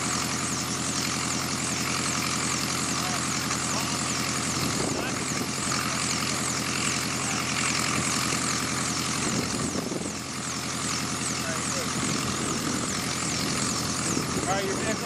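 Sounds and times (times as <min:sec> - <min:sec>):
helicopter engine and rotor drone: 0:00.0 - 0:15.0
wavering high whine: 0:00.0 - 0:15.0.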